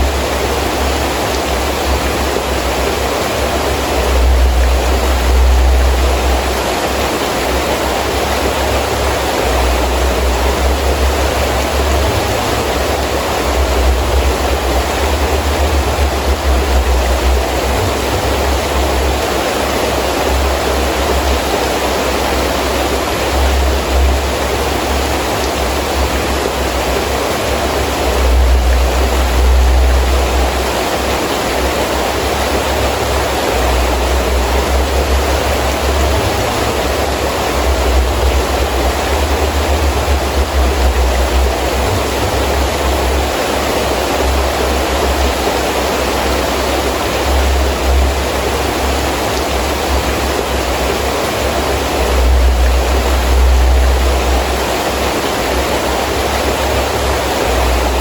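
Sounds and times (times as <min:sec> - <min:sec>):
low rumble: 0:00.0 - 0:06.8, 0:08.2 - 0:21.6, 0:22.2 - 0:45.4, 0:47.2 - 0:58.0
heavy rain in wind: 0:00.0 - 0:58.0.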